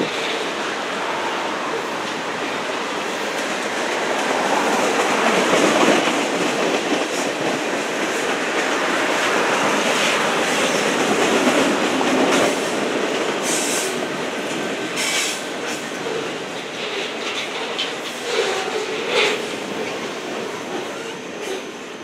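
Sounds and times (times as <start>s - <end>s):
train wheels clattering on rail: 0.0s - 22.0s.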